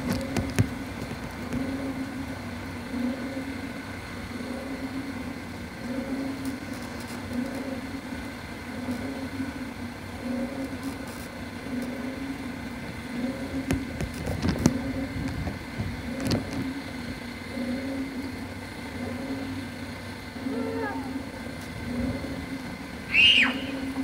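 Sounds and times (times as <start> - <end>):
steady motor hum: 0.0 - 24.0.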